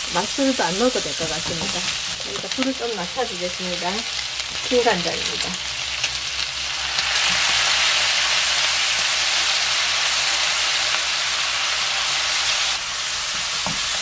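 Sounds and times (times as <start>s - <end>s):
sauce sizzling in a wok: 0.0s - 14.0s.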